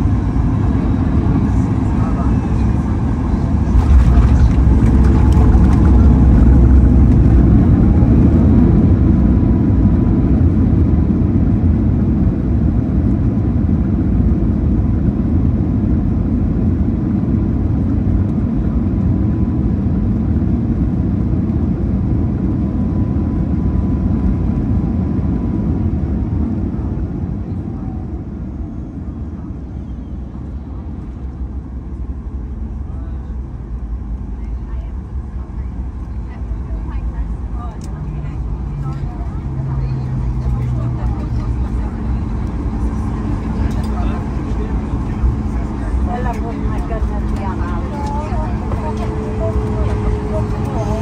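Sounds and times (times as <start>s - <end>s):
jet engines and wheels rumbling: 0.0s - 51.0s.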